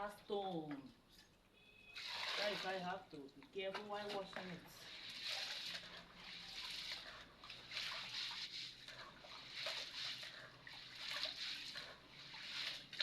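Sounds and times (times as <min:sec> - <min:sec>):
grain sloshing in water bowl: 0:01.8 - 0:13.0.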